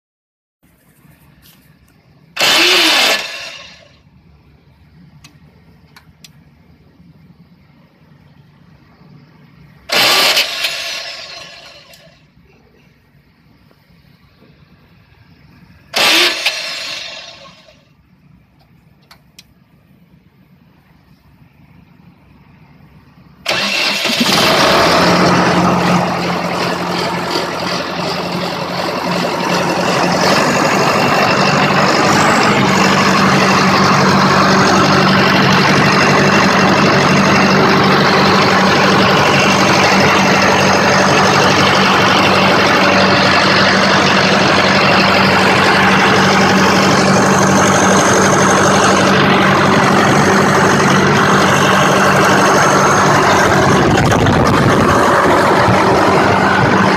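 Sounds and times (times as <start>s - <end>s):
diesel engine starting and idling: 0.6s - 56.9s.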